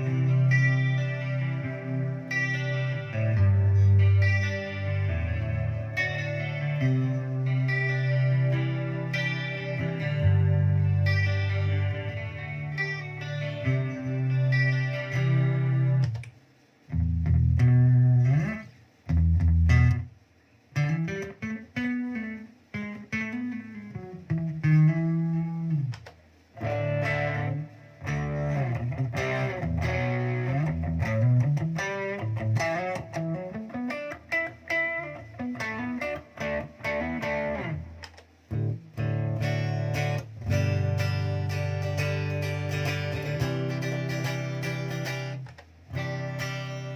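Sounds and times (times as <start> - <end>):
electric guitar riffs: 0.0 - 20.1, 20.7 - 46.9.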